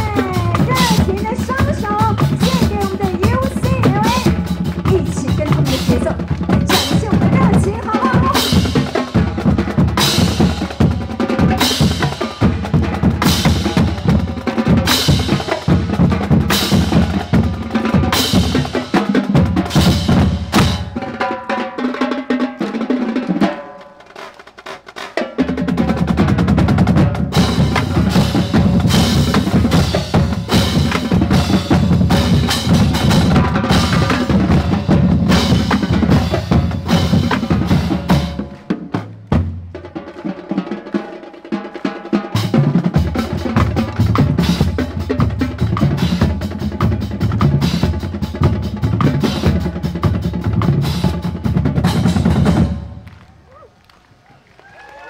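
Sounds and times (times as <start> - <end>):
bass drums: 0.0 - 21.1, 25.1 - 40.1, 42.4 - 53.5
snare drums: 0.0 - 55.0.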